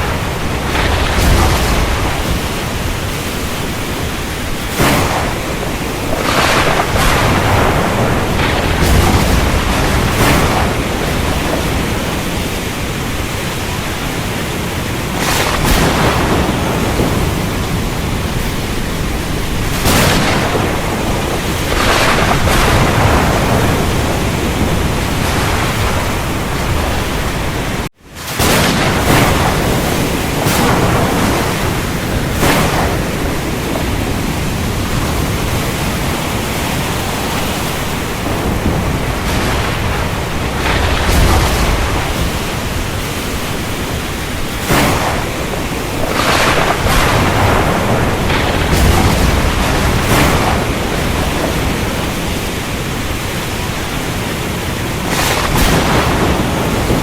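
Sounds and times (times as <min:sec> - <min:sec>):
heavy rain hissing: 0:00.0 - 0:57.0
thunder rumbling: 0:00.0 - 0:57.0.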